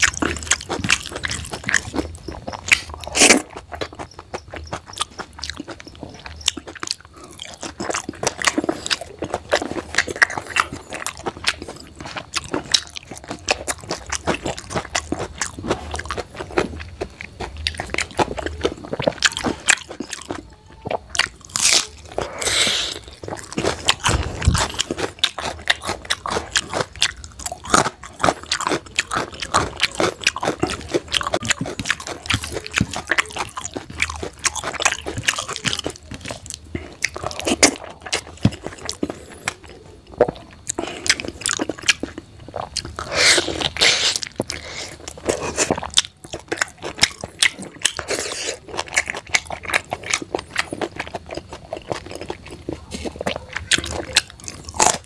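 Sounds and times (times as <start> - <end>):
crunchy bites: 0.0 - 55.0
person chewing with wet smacks: 0.0 - 55.0.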